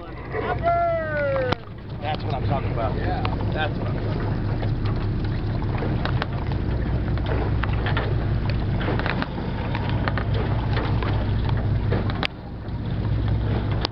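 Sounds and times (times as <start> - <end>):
boat engine droning: 0.0 - 13.9.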